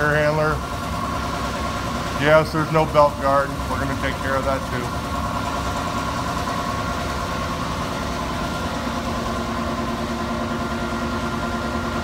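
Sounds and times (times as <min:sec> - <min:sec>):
air handler drone: 0:00.0 - 0:12.0.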